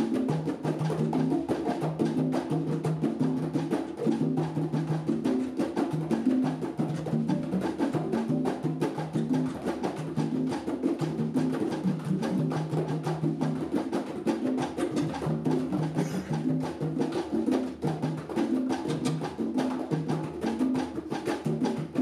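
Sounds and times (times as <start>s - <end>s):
hand drums playing fast rhythm: 0.0s - 22.0s.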